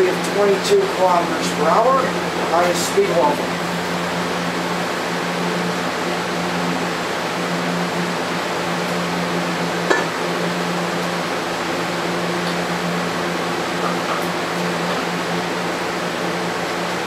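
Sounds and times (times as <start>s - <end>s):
electric fans rushing air: 0.0s - 17.0s
low hum: 0.0s - 17.0s.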